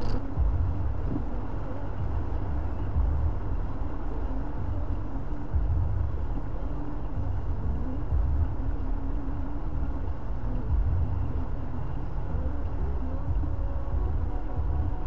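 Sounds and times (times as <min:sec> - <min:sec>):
car engine and road rumble: 0:00.0 - 0:15.0
faint wavering hum: 0:00.0 - 0:15.0.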